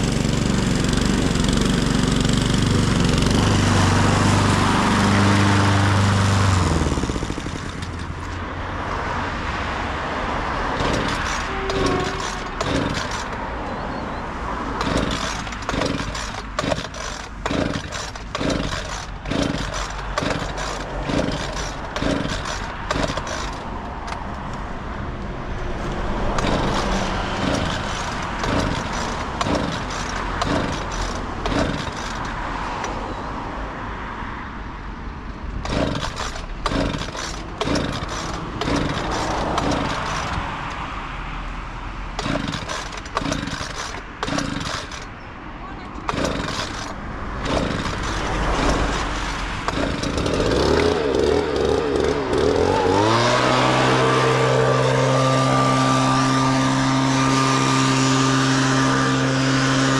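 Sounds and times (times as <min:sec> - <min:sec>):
bus passing: 0:00.0 - 0:59.9
road traffic passing: 0:00.0 - 0:59.9.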